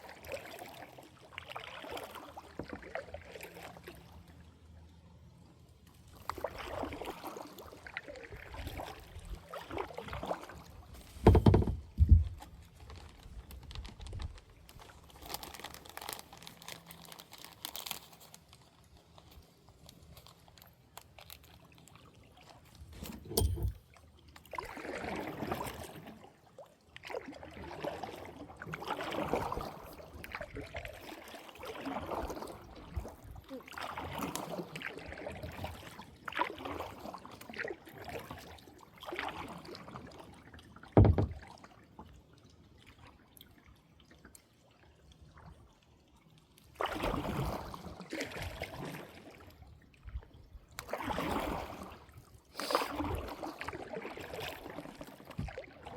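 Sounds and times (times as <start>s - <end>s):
water sloshing and splashing: 0.0s - 4.9s, 5.5s - 55.9s.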